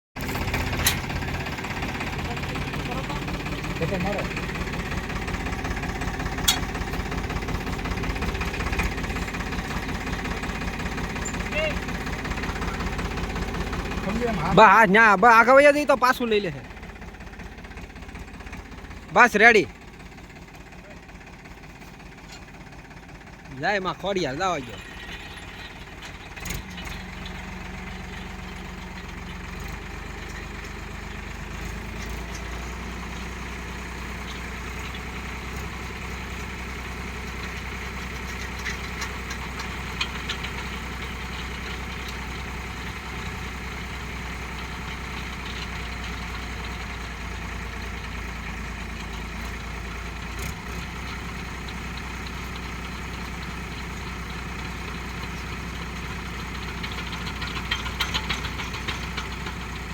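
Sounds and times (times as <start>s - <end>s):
tractor diesel engine running: 0.1s - 59.9s.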